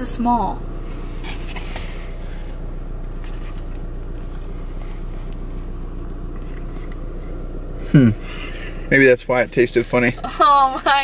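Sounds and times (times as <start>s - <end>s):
vehicle engine hum from cabin: 0.0s - 11.0s.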